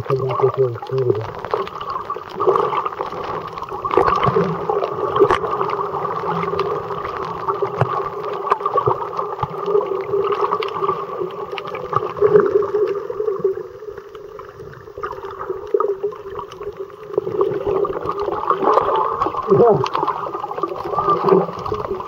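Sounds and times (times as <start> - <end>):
underwater clicks: 0.0 - 13.0, 14.0 - 22.0
underwater hum: 0.0 - 22.0
water gurgling: 0.0 - 22.0.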